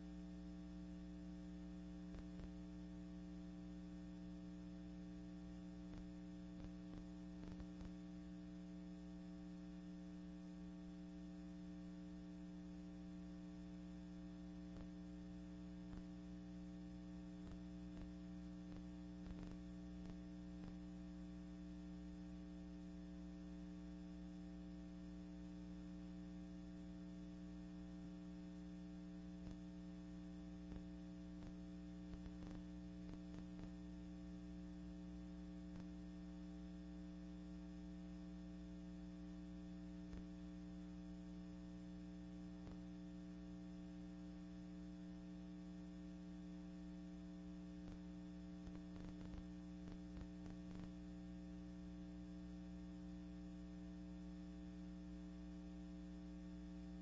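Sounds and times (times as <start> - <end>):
faint electrical hum: 0.0 - 57.0.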